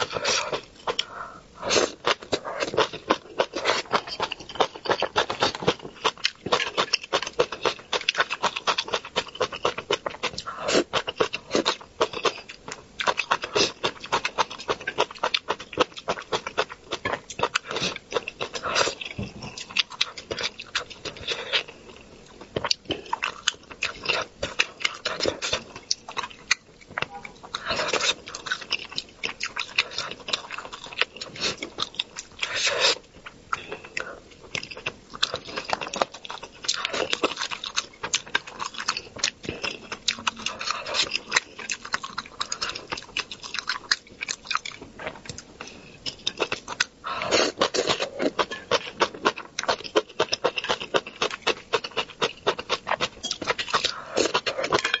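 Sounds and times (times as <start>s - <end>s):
chewing and mouth smacking: 0.0s - 55.0s.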